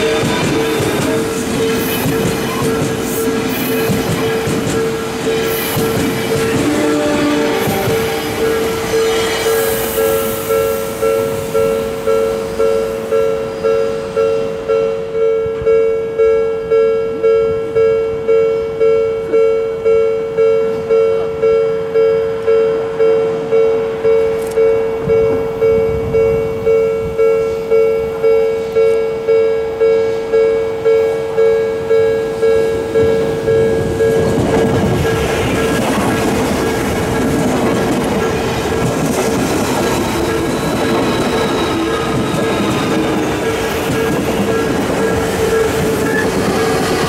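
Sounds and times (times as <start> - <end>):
train rumbling past: 0.0 - 15.8, 20.7 - 47.0
level crossing warning bell: 0.0 - 47.0.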